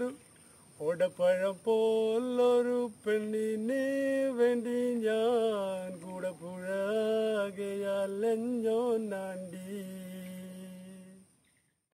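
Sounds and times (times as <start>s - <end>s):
man singing unaccompanied: 0.0s - 11.4s.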